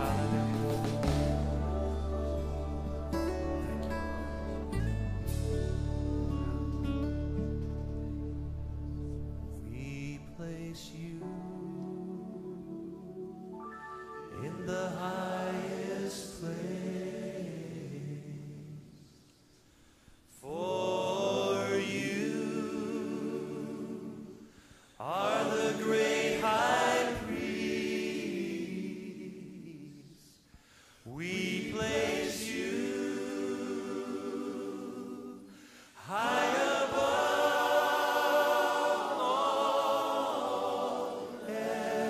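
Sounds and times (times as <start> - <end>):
choir singing slow song: 0.0 - 42.0.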